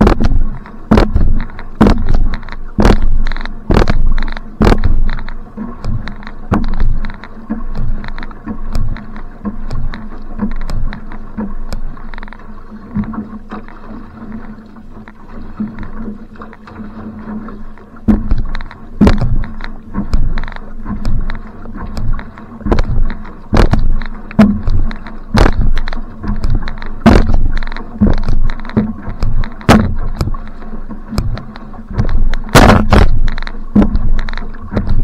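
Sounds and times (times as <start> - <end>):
paddle strokes splashing water: 0.0 - 35.0.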